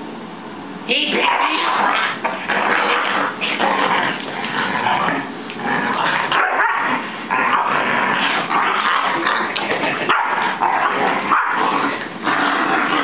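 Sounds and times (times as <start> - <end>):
dog barking and growling: 1.1 - 13.0.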